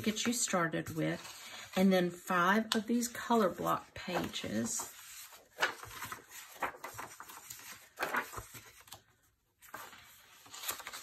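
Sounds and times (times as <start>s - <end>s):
paper pages rustling: 0.0s - 1.8s, 2.7s - 11.0s.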